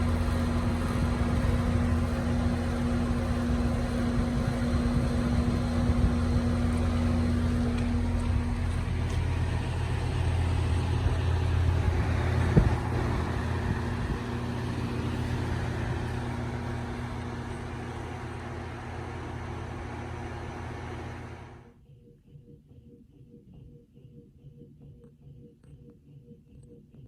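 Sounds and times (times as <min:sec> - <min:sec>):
heat pump humming: 0:00.0 - 0:21.8.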